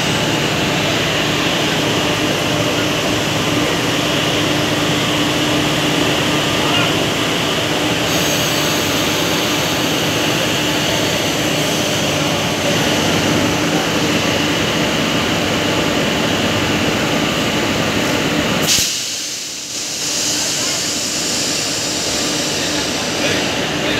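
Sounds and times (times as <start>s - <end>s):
locomotive mechanical roar: 0.0s - 19.2s.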